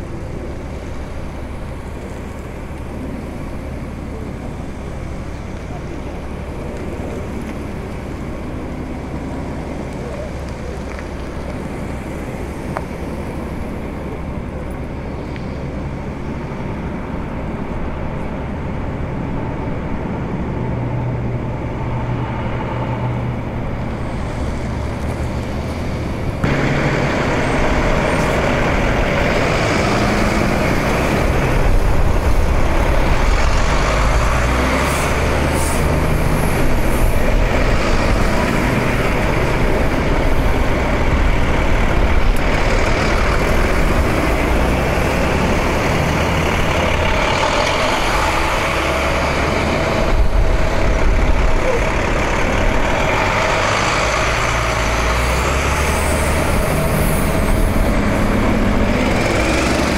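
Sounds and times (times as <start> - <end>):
heavy truck engines rumbling: 0.0 - 59.9.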